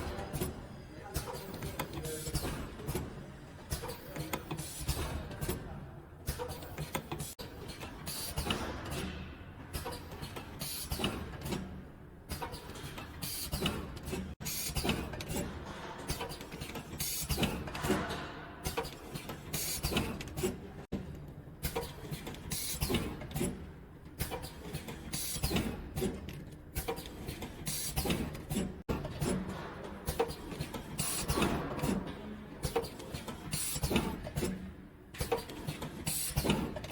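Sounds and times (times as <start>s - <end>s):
machine clicks and knocks: 0.0s - 36.9s.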